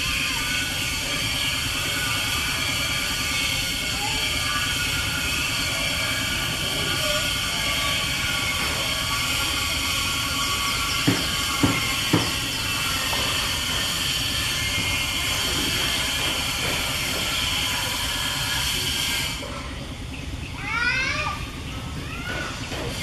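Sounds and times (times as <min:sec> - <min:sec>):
high-pitched buzzing drone: 0:00.0 - 0:23.0.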